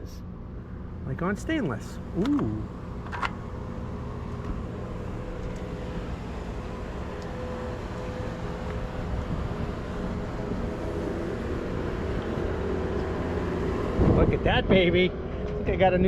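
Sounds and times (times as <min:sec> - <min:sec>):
engine droning: 0:00.0 - 0:16.0
faint steady hum: 0:00.0 - 0:16.0.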